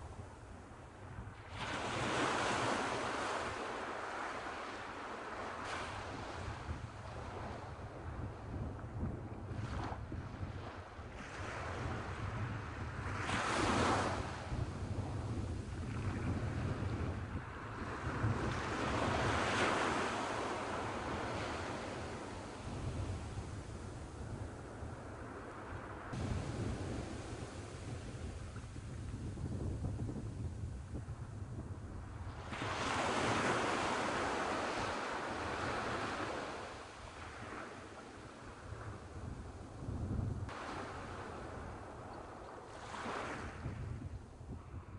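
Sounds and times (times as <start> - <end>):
surf washing up a sandy beach: 0.0 - 44.9
wind rumbling on microphone: 0.0 - 44.9.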